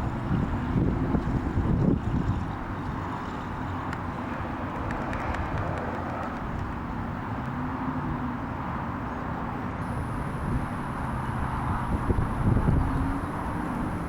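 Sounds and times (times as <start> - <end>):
constant rushing noise: 0.0 - 14.0.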